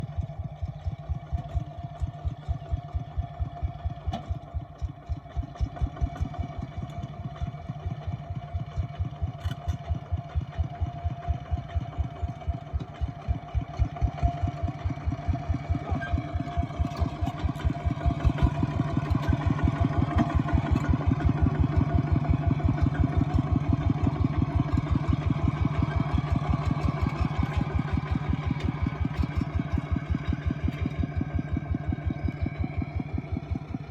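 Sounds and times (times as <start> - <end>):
tractor engine exhaust beats: 0.0 - 33.9.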